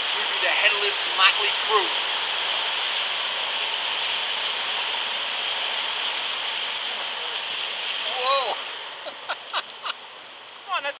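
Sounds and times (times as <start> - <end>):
water rushing along boat hull: 0.0 - 11.0.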